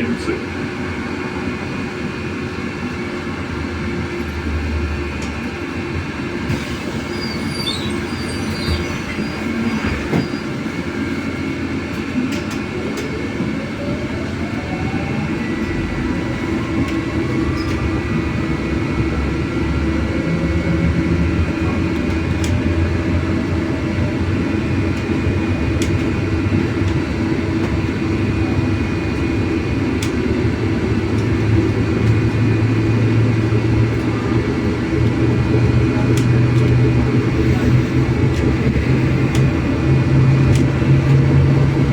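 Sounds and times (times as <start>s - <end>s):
road and body rumble: 0.0s - 41.9s.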